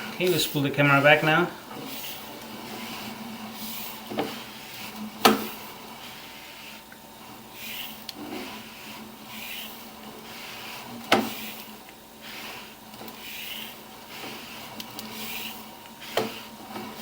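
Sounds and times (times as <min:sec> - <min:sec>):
cable rubbing in strokes: 0:00.2 - 0:06.9, 0:07.5 - 0:17.0.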